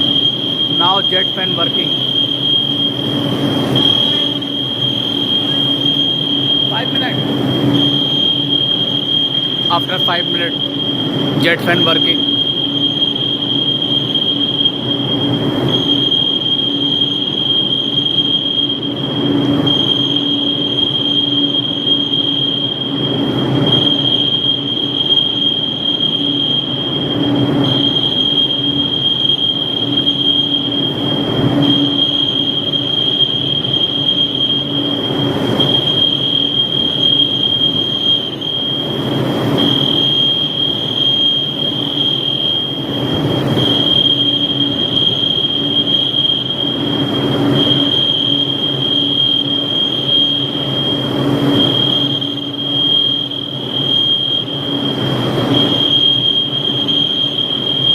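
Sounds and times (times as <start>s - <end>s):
fire alarm high-pitched tone: 0.0s - 57.9s
ventilation fans rushing: 0.0s - 57.9s.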